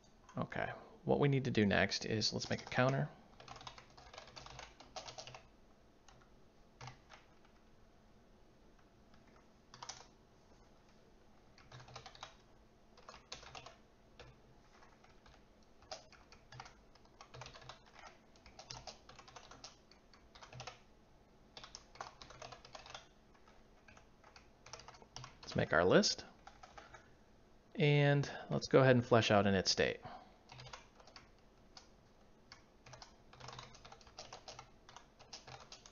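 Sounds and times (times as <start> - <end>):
faint keyboard typing: 1.7 - 7.8, 8.7 - 20.9, 21.5 - 27.2, 30.4 - 35.9.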